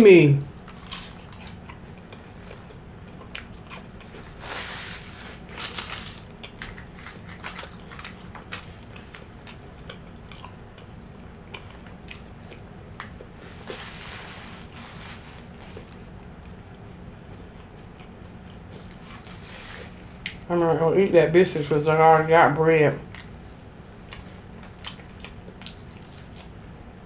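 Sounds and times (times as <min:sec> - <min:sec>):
chewing and crunching pie crust: 0:00.0 - 0:27.0.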